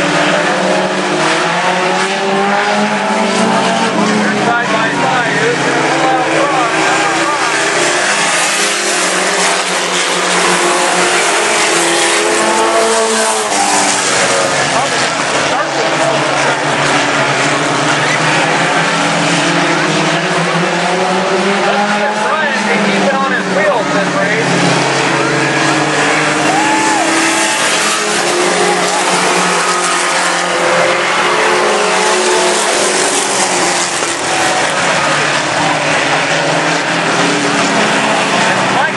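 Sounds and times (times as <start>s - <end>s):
racing mini truck engines droning: 0.0s - 38.9s.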